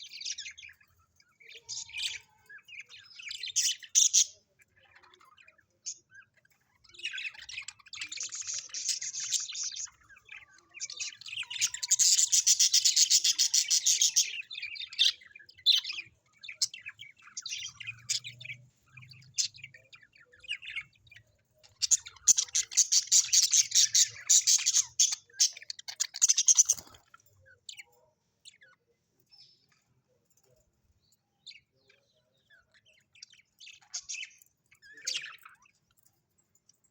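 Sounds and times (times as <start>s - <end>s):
parrots chattering: 0.0s - 27.9s, 31.5s - 35.8s.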